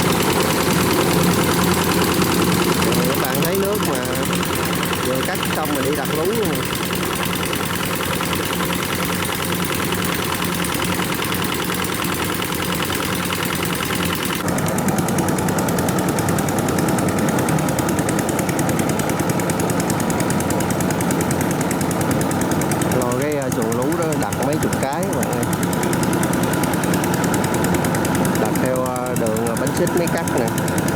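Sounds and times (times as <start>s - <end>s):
combine harvester diesel engine knocking: 0.0s - 30.9s.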